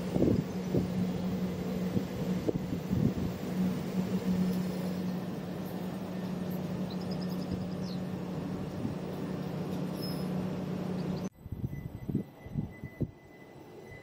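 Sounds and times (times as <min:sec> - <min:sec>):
electric train hum: 0:00.0 - 0:14.0
train wheels rumbling on rails: 0:00.0 - 0:14.0.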